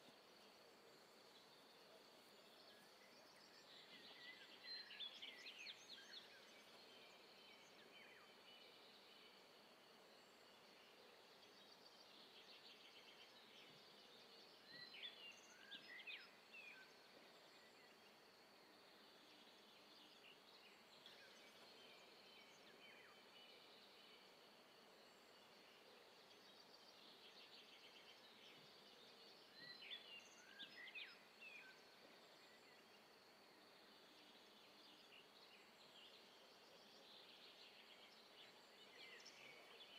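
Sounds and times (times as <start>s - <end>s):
low steady hiss: 0.0s - 39.9s
small birds chirping: 0.0s - 39.9s.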